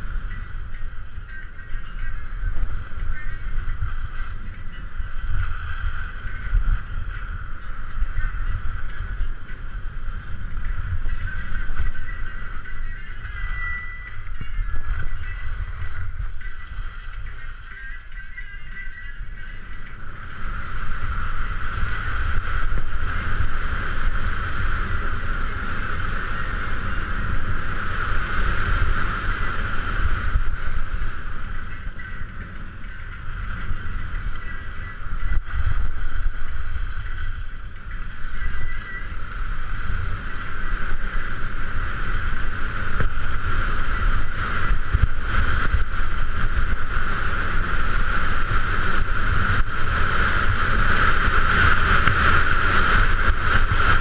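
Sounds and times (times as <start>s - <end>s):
skis sliding over snow: 0.0s - 54.0s
wind buffeting microphone: 0.0s - 54.0s.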